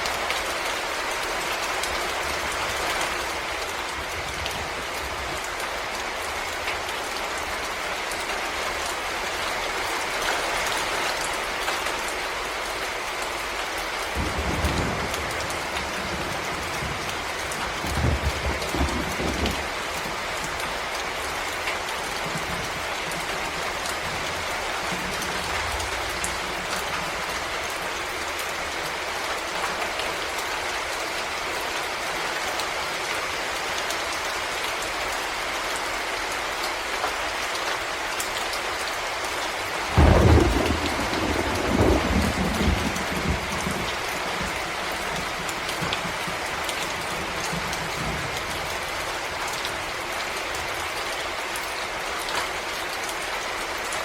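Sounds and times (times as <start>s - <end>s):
rain falling in a forest: 0.0s - 54.0s.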